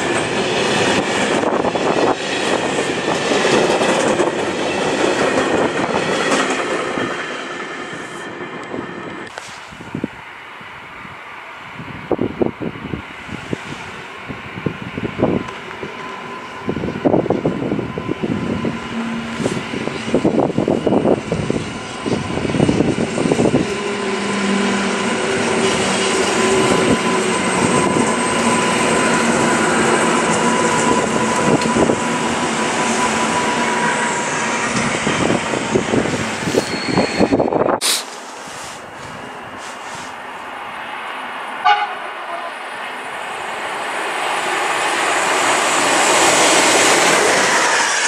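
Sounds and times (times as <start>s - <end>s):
train steady whine: 0.0s - 48.0s
wheels rumbling on rails: 0.0s - 48.0s.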